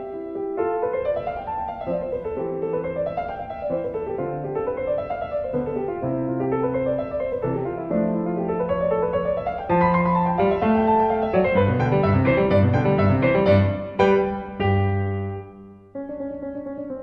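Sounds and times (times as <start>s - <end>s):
piano arpeggios: 0.0s - 17.0s.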